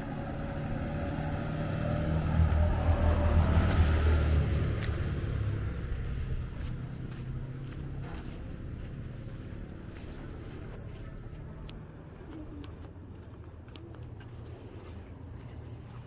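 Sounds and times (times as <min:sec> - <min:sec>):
engine passing by: 0:00.0 - 0:16.0.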